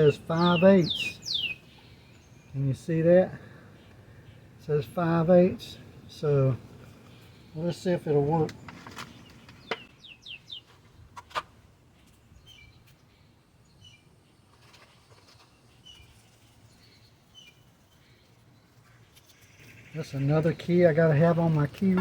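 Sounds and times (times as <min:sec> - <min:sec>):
small birds chirping: 0:00.0 - 0:10.9, 0:11.8 - 0:22.0.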